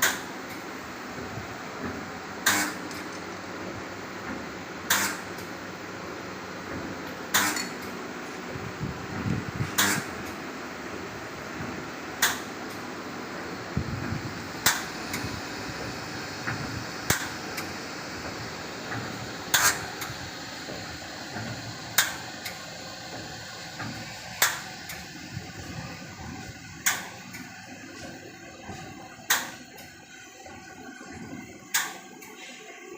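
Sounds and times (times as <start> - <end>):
machine steady mechanical noise: 0.0 - 32.9.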